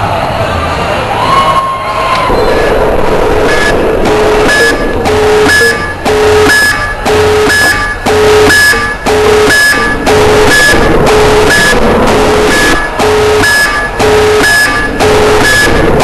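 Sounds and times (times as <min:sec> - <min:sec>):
electronic beat with beeps: 0:02.4 - 0:16.0.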